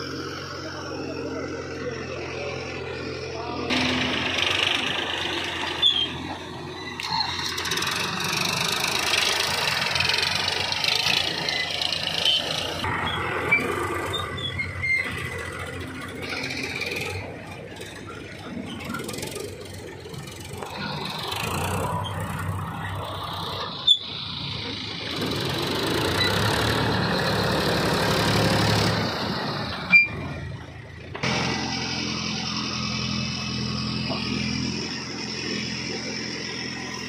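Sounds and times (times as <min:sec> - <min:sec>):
backhoe diesel engine: 0:00.0 - 0:37.0
tractor diesel engine: 0:00.0 - 0:37.0.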